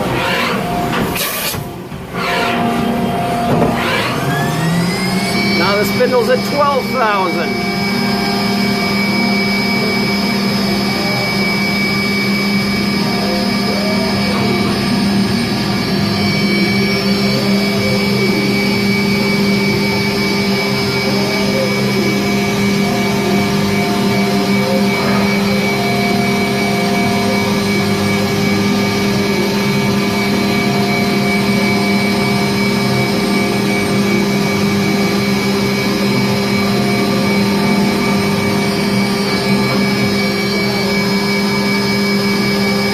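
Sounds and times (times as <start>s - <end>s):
machine hum: 0.0s - 42.9s
mill spindle whine: 0.0s - 42.9s.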